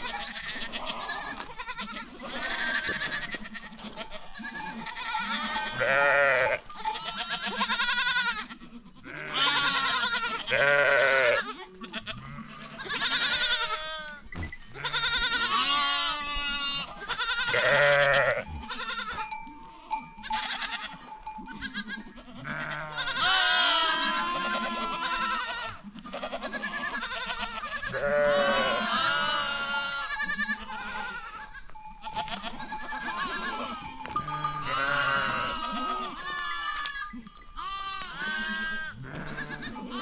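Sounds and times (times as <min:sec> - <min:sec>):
goats bleating: 0:00.0 - 0:40.0.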